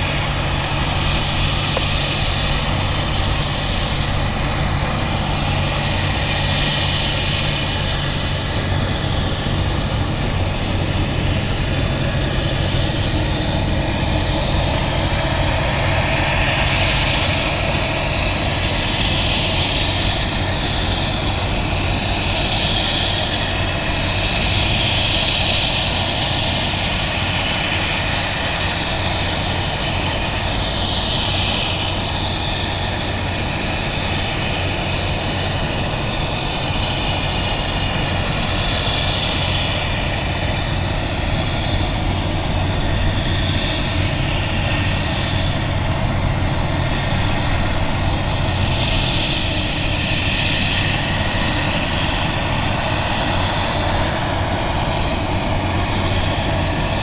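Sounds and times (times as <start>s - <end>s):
jet engines humming and hissing: 0.0s - 57.0s.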